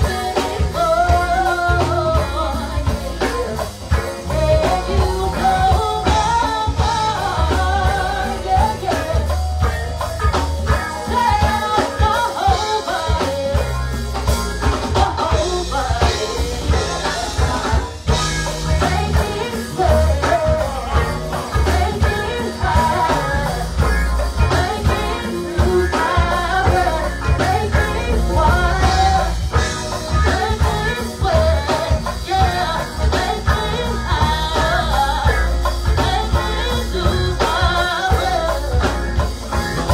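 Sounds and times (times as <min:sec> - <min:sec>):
person singing: 0:00.0 - 0:09.6, 0:14.8 - 0:39.0
bass guitar beat: 0:00.0 - 0:39.9
congas: 0:00.0 - 0:39.9
drum kit: 0:00.0 - 0:39.9.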